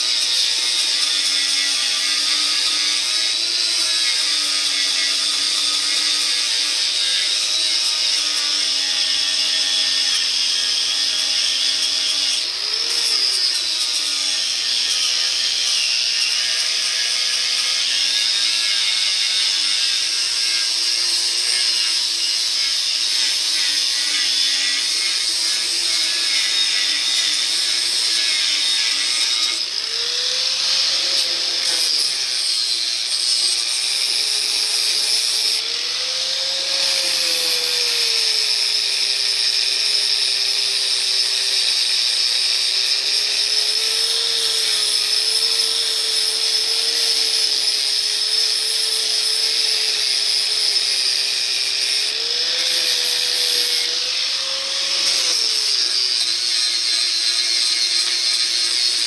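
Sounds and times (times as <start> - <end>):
angle grinder grinding metal: 0.0 - 59.0.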